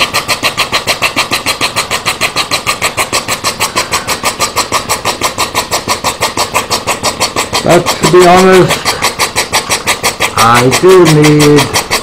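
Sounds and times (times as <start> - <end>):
steady high whine: 0.0 - 12.0
steam engine exhaust chuffs: 0.0 - 12.0.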